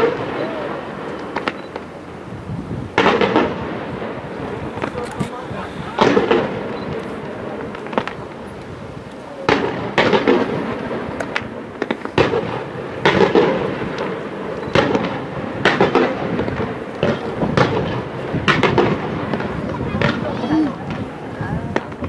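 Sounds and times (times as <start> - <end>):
fireworks shells bursting: 0.0 - 2.0, 2.9 - 22.0
fireworks crackling: 0.0 - 22.0.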